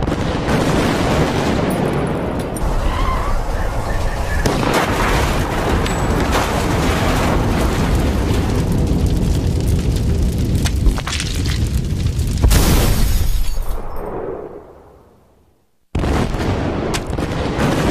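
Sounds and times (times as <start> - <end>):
dense crackling and rumbling: 0.0 - 17.9.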